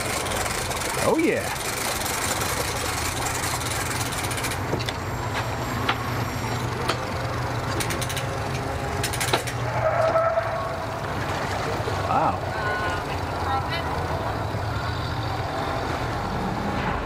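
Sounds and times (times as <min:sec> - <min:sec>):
outboard motor idling: 0:00.0 - 0:16.3.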